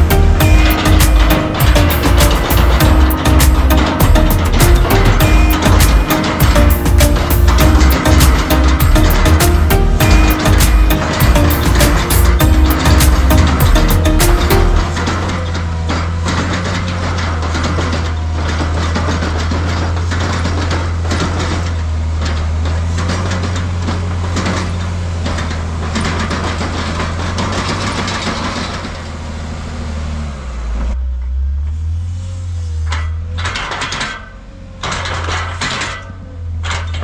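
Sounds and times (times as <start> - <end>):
tractor diesel engine clattering: 0.0 - 37.0.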